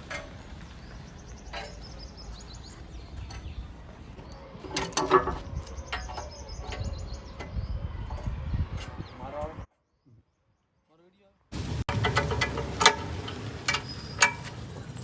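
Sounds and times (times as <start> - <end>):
birds chirping: 0.0 - 10.9, 11.6 - 15.0.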